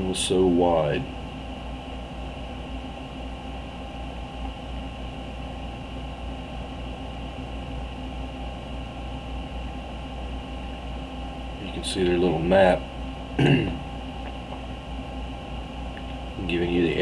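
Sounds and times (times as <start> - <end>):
faint constant tones: 0.0 - 17.0
low background hum: 0.0 - 17.0.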